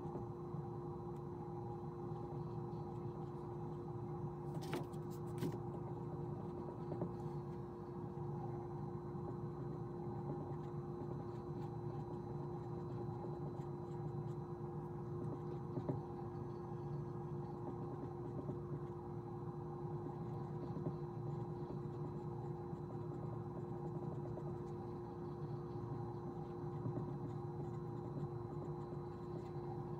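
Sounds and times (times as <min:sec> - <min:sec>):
steady hum of constant tones: 0:00.0 - 0:29.9.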